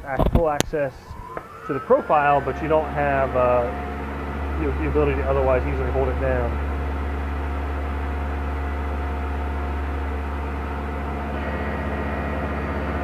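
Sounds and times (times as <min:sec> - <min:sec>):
faint rapid pulsing: 0:00.5 - 0:13.0
high whine: 0:00.5 - 0:13.0
milling machine humming: 0:00.7 - 0:13.0.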